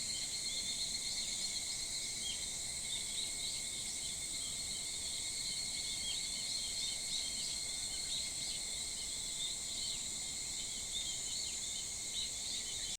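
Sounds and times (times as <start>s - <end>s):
insect chorus droning: 0.0s - 12.9s.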